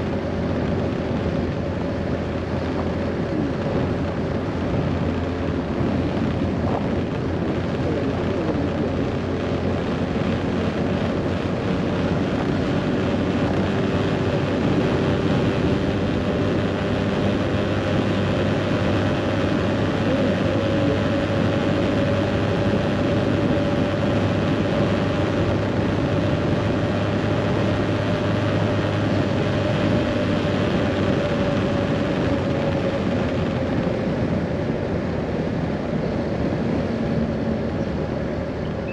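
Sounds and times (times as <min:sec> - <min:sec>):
scooter engine running: 0:00.0 - 0:34.9.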